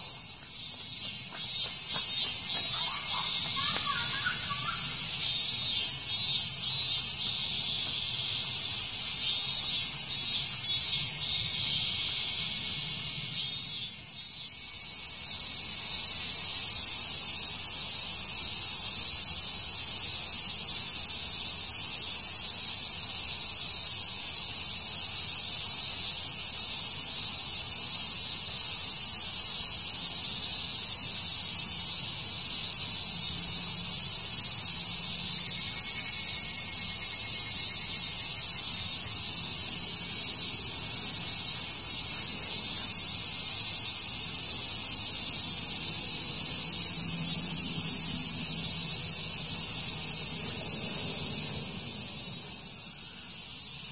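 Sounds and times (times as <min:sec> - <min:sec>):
high-pitched insect chorus: 0:00.0 - 0:53.9.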